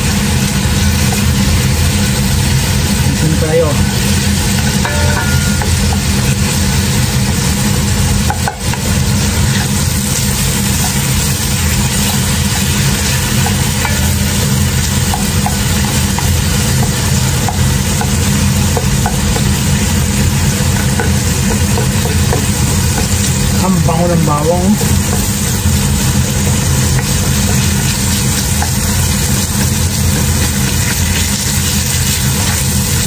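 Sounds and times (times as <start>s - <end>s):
meat and garlic sizzling: 0.0s - 33.0s
steady low hum: 0.0s - 33.0s.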